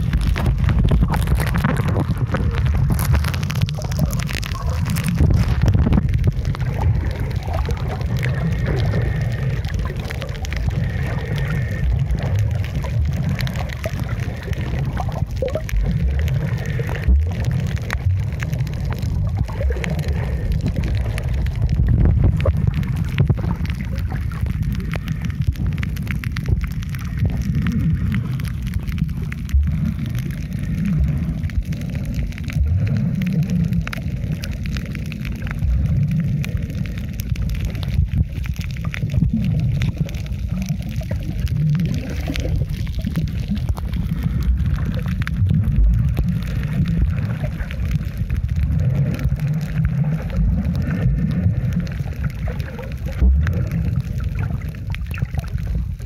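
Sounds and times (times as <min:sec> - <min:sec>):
faint clicks and crackles: 0:00.0 - 0:56.0
muffled underwater rumble: 0:00.0 - 0:56.0.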